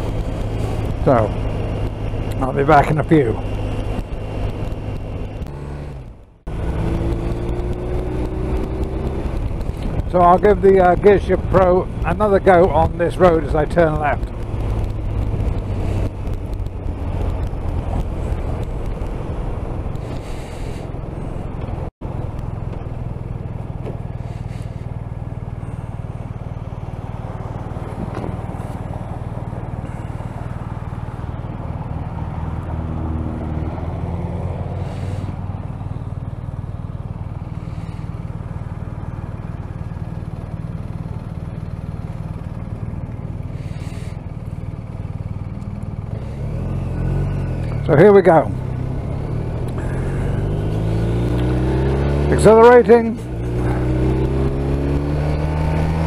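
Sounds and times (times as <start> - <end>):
motorcycle engine running and idling: 0.0 - 33.6, 34.4 - 56.0.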